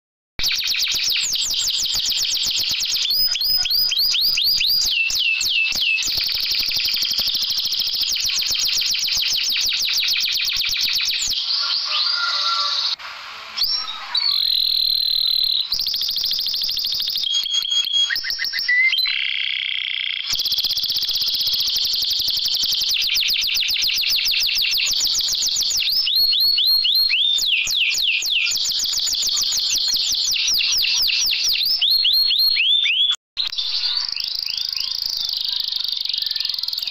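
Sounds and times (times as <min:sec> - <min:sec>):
canary singing rapid trills: 0:00.4 - 0:36.9.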